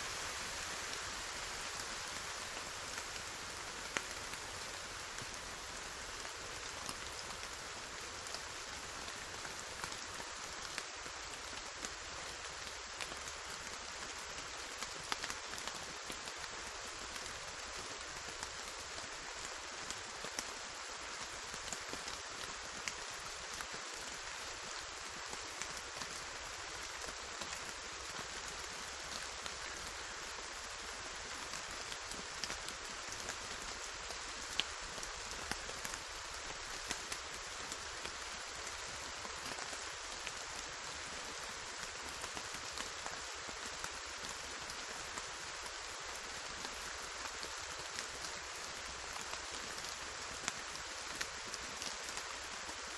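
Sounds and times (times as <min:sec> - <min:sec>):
steady rain hiss: 0:00.0 - 0:52.9
raindrops ticking: 0:00.1 - 0:52.9.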